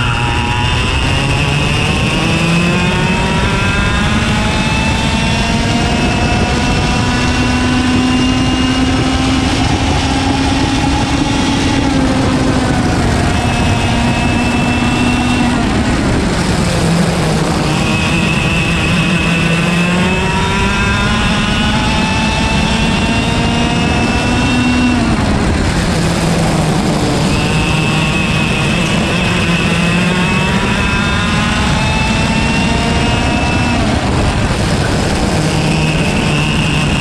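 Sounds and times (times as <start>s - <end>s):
kart engine at racing speed: 0.0s - 37.0s
wind noise: 0.0s - 37.0s.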